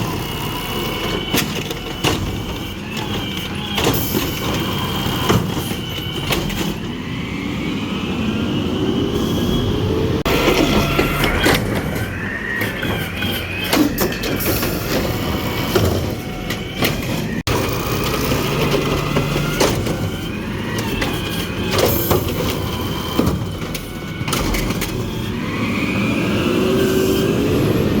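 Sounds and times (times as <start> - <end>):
diesel truck engine revving: 0.0 - 28.0.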